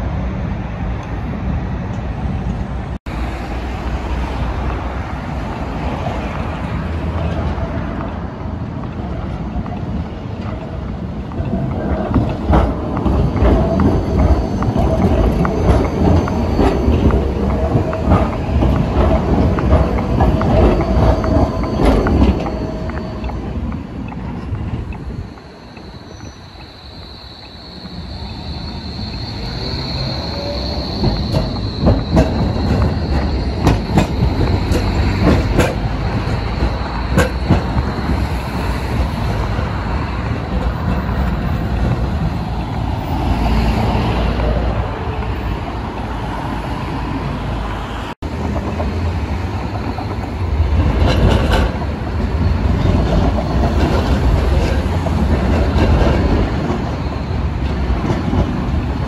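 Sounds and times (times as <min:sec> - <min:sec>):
road traffic rumble: 0:00.0 - 0:59.0
tram clattering over track: 0:00.0 - 0:59.0
tram wheels clicking over rail joints: 0:01.0 - 0:59.0
tram wheel squeal: 0:01.9 - 0:59.0.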